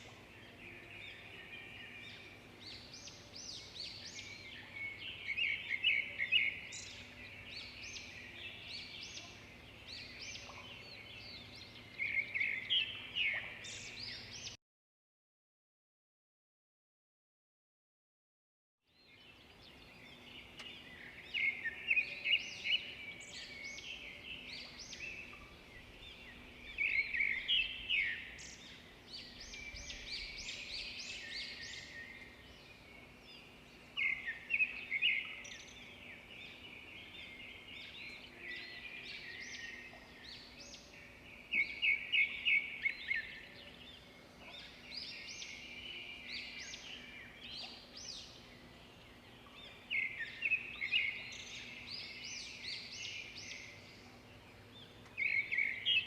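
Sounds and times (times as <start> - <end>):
wild birds singing: 0.0 - 14.6, 18.9 - 56.0.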